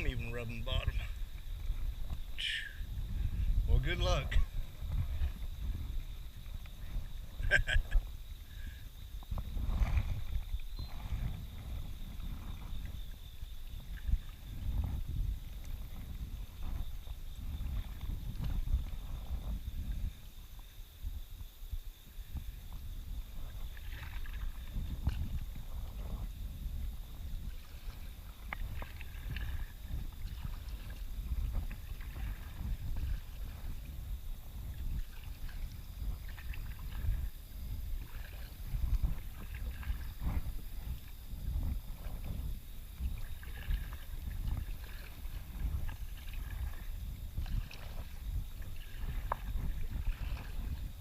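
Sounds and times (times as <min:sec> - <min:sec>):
low boat rumble: 0:00.0 - 0:20.7, 0:22.2 - 0:51.0.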